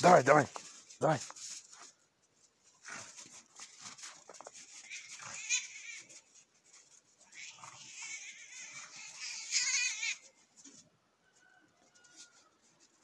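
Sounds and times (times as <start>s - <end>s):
animals scuffling: 0.0s - 13.0s.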